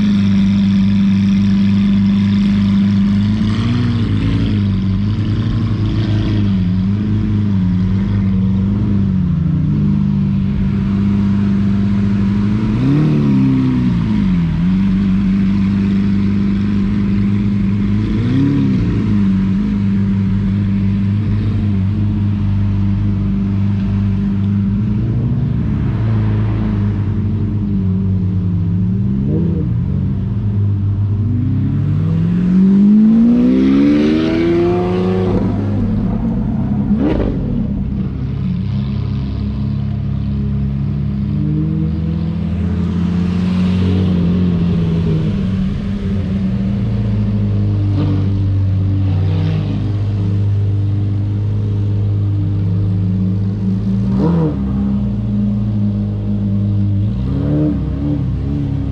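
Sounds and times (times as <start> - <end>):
sports car engines revving: 0.0 - 58.9.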